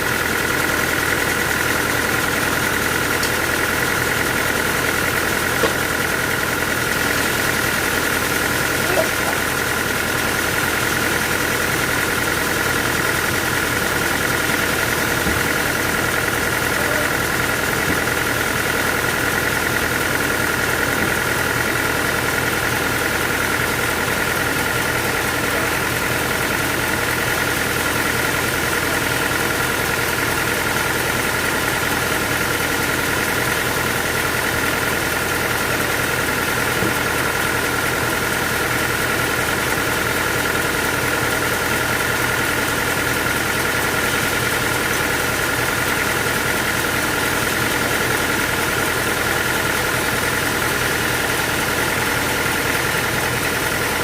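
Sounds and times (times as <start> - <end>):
sawmill machinery humming and whining: 0.0 - 54.0.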